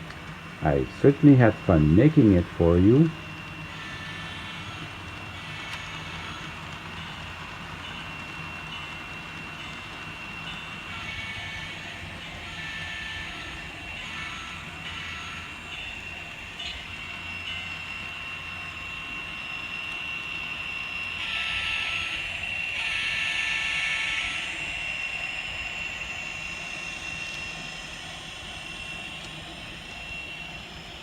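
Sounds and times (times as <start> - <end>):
diesel locomotive sounds from small speaker: 0.0 - 31.0.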